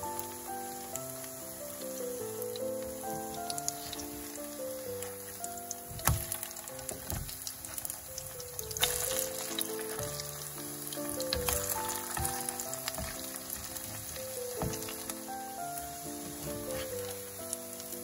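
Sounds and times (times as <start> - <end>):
melodic background music: 0.0 - 18.0
pancakes sizzling in oil: 0.0 - 18.0.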